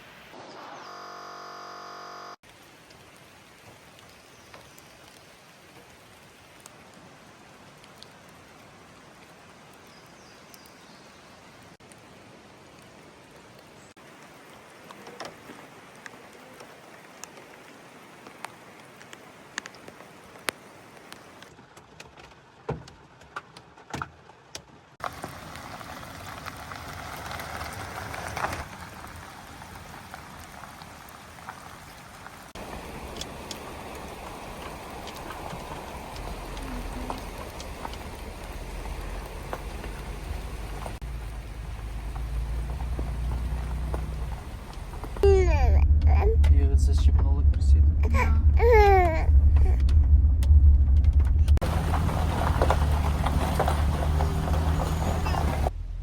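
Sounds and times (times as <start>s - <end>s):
rain falling: 1.9s - 56.0s.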